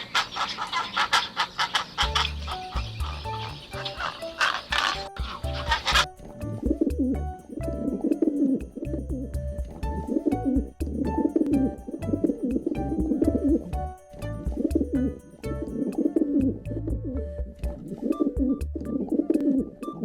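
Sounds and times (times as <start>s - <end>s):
background music: 2.0s - 20.0s.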